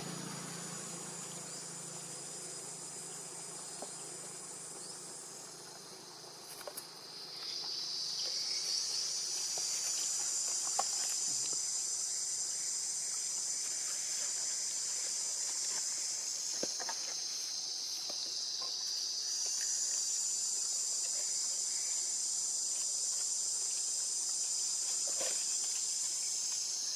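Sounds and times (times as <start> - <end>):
shrill insect chorus: 0.0 - 26.9.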